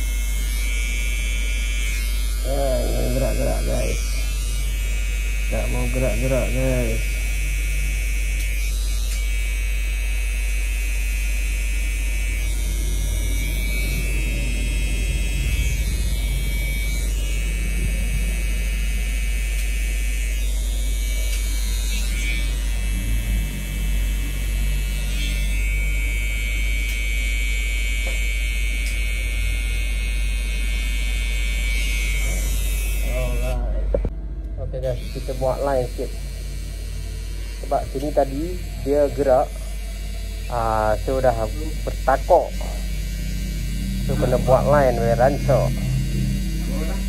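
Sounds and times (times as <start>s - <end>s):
electric hair trimmer buzzing: 0.0s - 47.0s.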